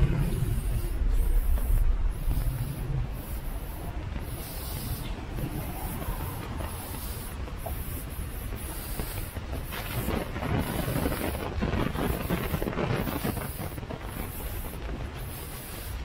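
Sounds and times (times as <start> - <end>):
rush of noise: 0.0 - 16.0
steady hiss: 0.0 - 16.0
wind rumble on microphone: 0.0 - 16.0.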